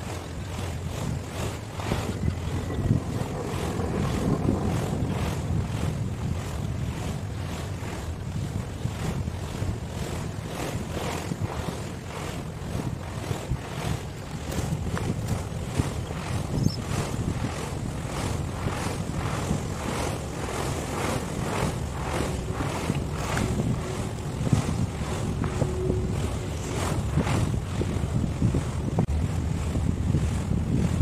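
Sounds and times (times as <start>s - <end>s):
sea surf: 0.0s - 31.0s
wind buffeting microphone: 0.0s - 31.0s.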